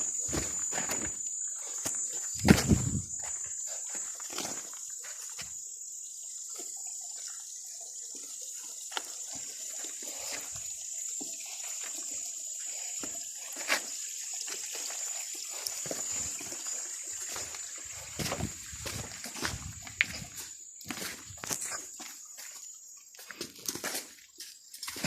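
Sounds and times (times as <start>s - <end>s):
steady high-pitched hiss: 0.0s - 23.4s
water trickling and splashing: 0.0s - 25.0s.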